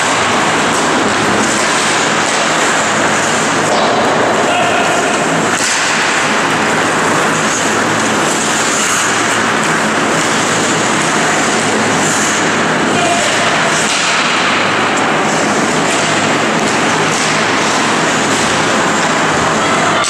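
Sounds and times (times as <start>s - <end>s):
hockey sticks hitting puck: 0.0s - 20.0s
skate blades scraping on ice: 0.0s - 20.0s.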